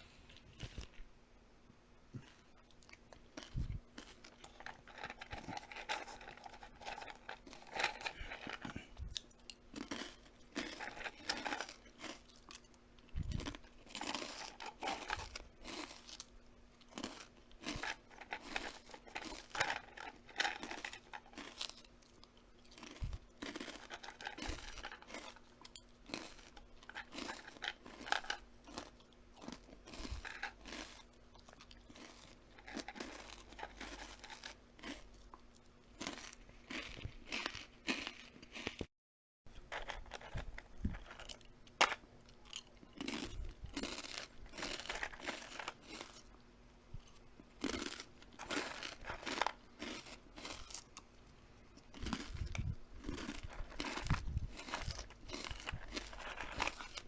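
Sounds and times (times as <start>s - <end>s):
crunchy chewing: 2.2s - 38.9s, 39.5s - 46.4s, 47.0s - 57.0s.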